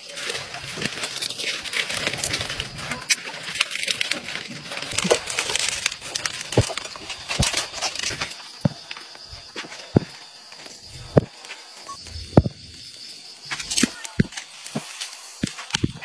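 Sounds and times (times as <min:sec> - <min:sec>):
palm leaves rustling and crackling: 0:00.0 - 0:16.0.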